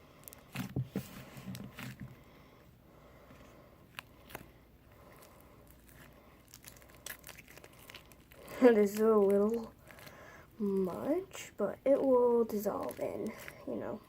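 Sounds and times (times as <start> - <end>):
slime squishing: 0.2 - 2.3, 3.2 - 14.0.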